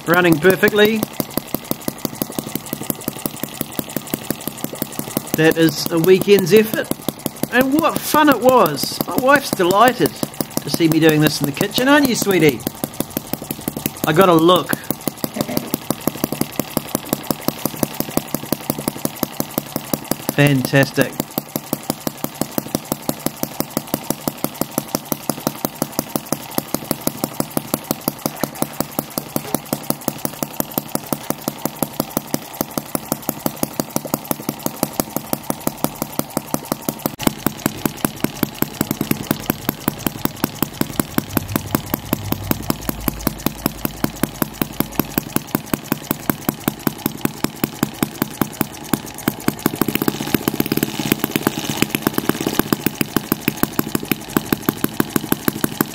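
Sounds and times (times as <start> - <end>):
model engine running: 0.0 - 55.9.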